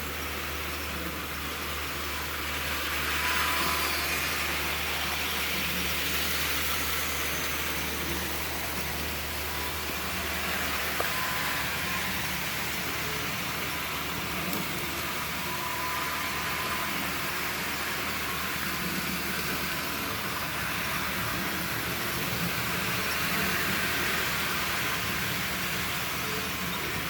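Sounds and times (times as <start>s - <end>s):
toy train motor whirring: 2.0s - 27.0s.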